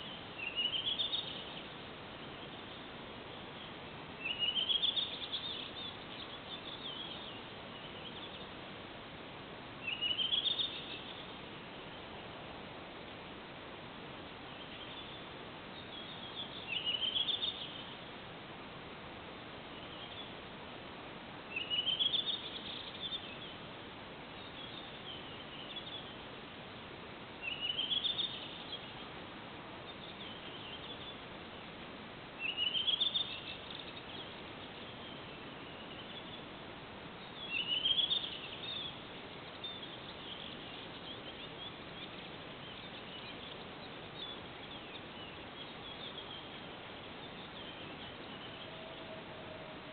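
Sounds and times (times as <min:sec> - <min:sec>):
songbird singing: 0:00.0 - 0:49.9
steady background hiss: 0:00.0 - 0:49.9.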